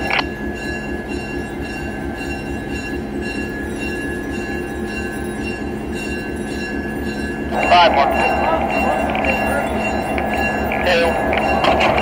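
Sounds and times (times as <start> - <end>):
diesel locomotive engine rumbling: 0.0 - 12.0.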